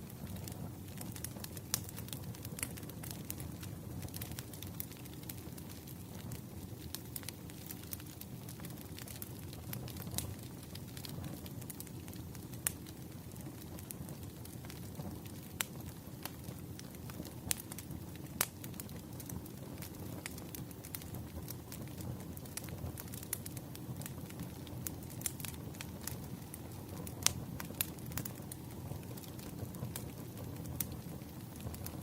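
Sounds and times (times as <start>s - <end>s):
burning wood crackling and popping: 0.0s - 32.0s
low rumble of flames: 0.0s - 32.0s.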